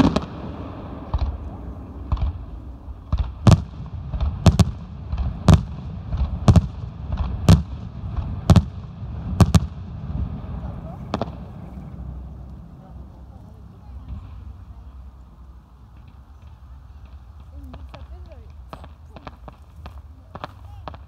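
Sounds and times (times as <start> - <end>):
fireworks bangs: 0.0 - 13.0, 15.9 - 21.0.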